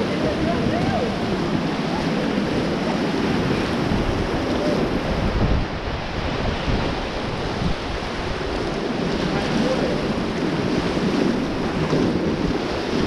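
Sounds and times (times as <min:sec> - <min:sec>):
river whitewater rushing: 0:00.0 - 0:13.0
wind buffeting microphone: 0:00.0 - 0:13.0.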